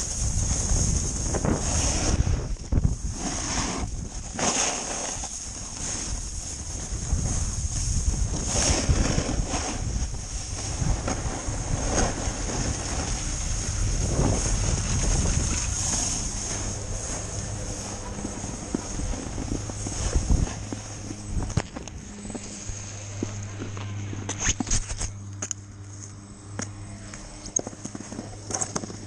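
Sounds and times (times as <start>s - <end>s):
wind buffeting microphone: 0.0s - 4.4s, 5.4s - 24.3s
snowboard sliding over snow: 0.0s - 25.0s
snowboard edge scraping: 0.0s - 25.1s.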